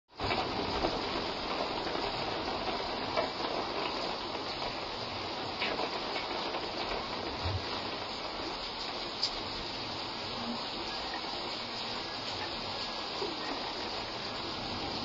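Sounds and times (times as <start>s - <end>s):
heavy rain pouring: 0.1s - 15.0s
faint taps of raindrops: 0.2s - 15.0s.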